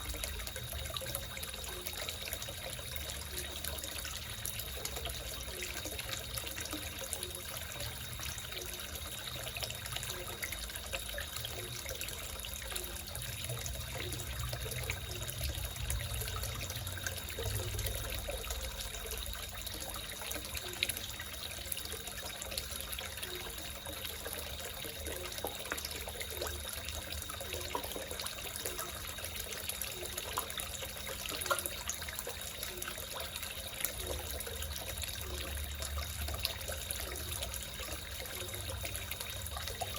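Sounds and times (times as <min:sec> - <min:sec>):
frogs croaking: 0:00.0 - 0:39.9
water trickling into pond: 0:00.0 - 0:39.9.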